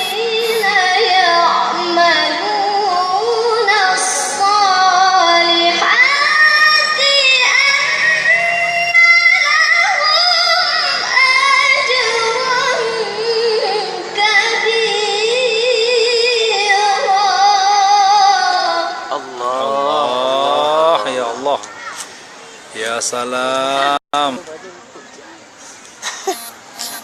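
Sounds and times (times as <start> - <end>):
child chanting melodically: 0.0 - 21.9.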